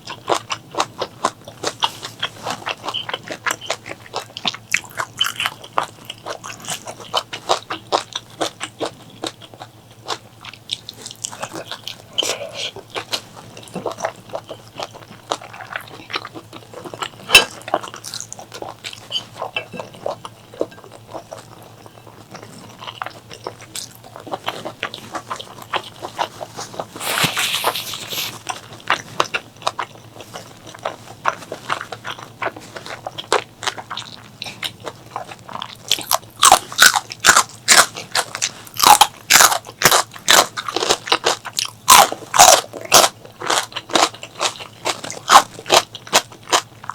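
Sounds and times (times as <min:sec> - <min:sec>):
person chewing and crunching food: 0:00.0 - 0:46.9.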